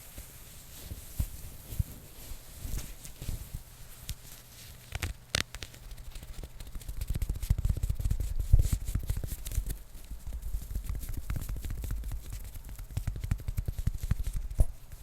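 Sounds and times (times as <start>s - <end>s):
fast tapping and rubbing: 2.6s - 15.0s.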